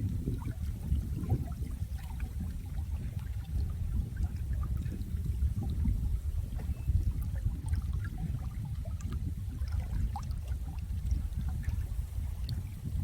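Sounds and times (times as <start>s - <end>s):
water plinks and drips: 0.0s - 13.0s.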